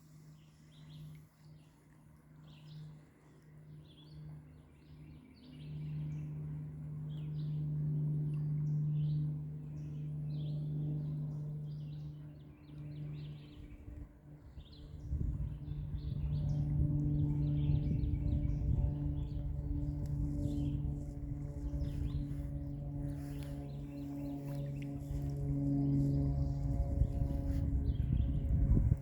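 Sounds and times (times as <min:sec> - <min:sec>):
steady low hum: 0:00.0 - 0:29.0
songbirds chirping: 0:00.2 - 0:29.0.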